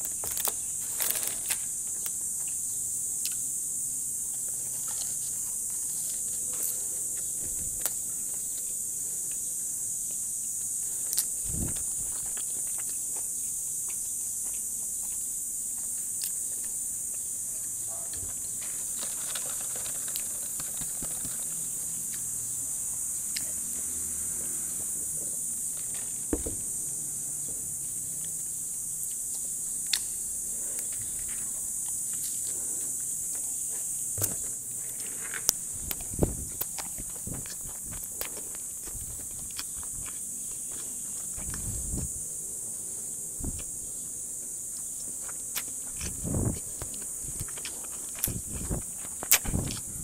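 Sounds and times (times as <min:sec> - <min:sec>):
high-pitched hiss: 0:00.0 - 0:50.0.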